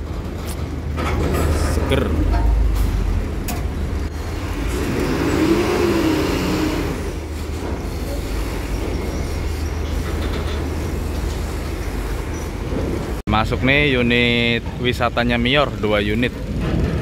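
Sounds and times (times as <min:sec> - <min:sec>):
diesel bus engines rumbling: 0:00.0 - 0:17.0.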